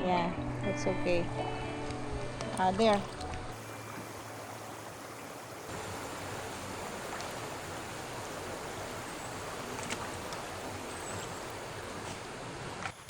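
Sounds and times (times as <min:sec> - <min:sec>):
river flowing: 0:02.0 - 0:13.0.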